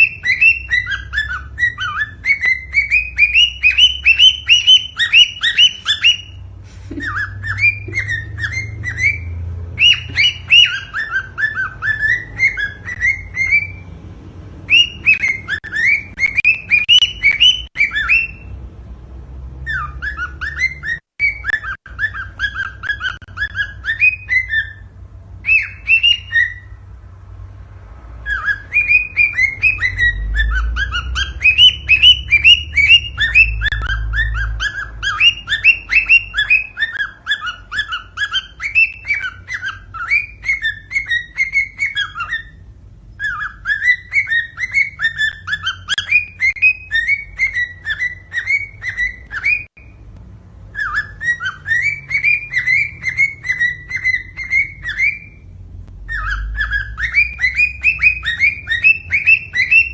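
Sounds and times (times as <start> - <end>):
cockatiel whistled chirps: 0.0 - 13.9, 14.6 - 18.5, 19.6 - 26.8, 28.2 - 50.0, 50.7 - 59.9
low background hum: 0.0 - 59.9.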